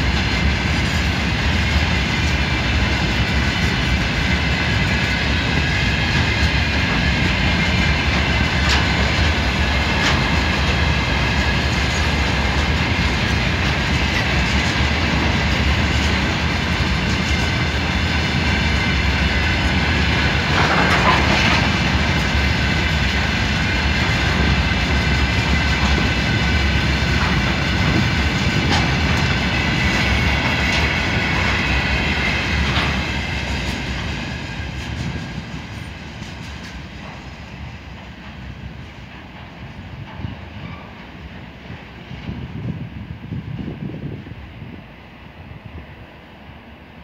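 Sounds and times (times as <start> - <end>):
freight train wheels clattering on rail: 0.0 - 47.0.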